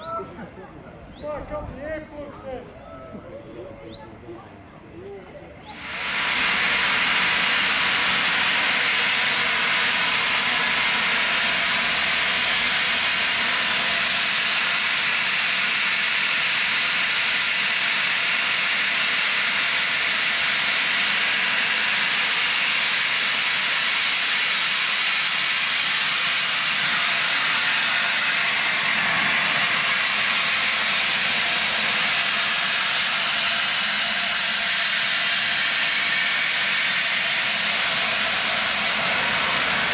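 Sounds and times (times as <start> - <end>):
steam hissing from locomotive: 5.6 - 39.9.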